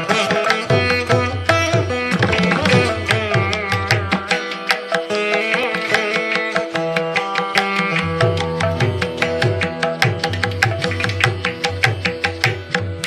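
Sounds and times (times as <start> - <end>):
hand drum beat: 0.0 - 13.0
plucked string instrument melody: 0.0 - 13.0.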